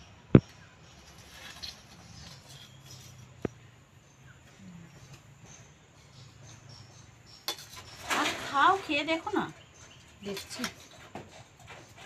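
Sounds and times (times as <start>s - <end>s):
faint insects chirping: 0.0s - 12.0s.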